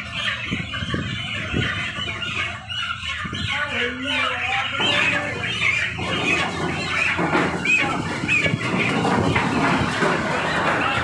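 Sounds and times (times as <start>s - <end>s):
chickens squawking and squealing: 0.0s - 11.0s.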